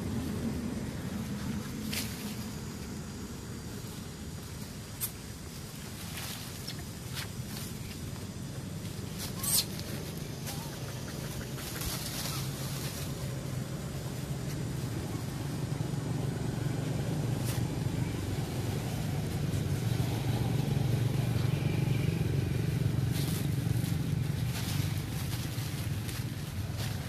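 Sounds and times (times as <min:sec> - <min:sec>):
engine running at low pitch: 0:00.0 - 0:27.0.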